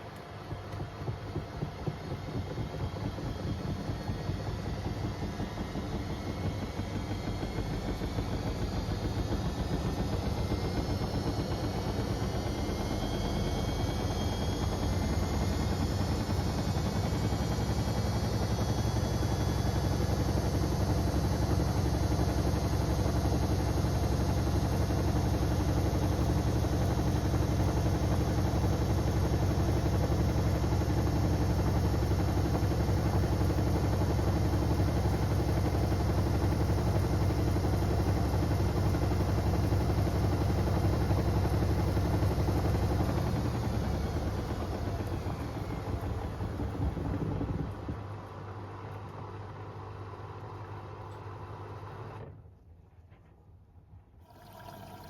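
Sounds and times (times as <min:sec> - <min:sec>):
washing machine spinning: 0:00.0 - 0:52.2, 0:54.2 - 0:55.0.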